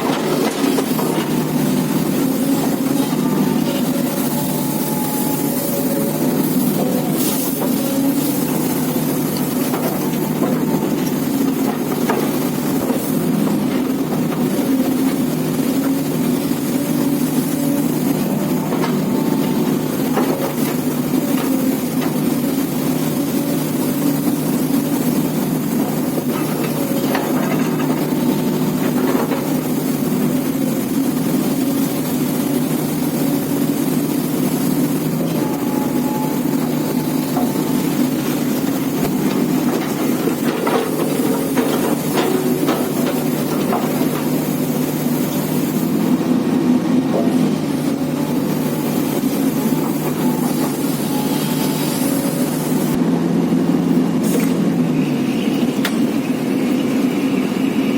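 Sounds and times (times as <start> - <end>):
diesel machinery running: 0.0 - 57.9.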